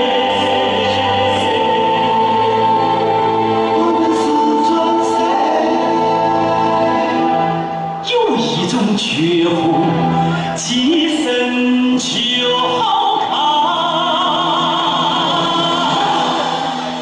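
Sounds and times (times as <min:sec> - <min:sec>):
opera music over loudspeakers: 0:00.0 - 0:17.0.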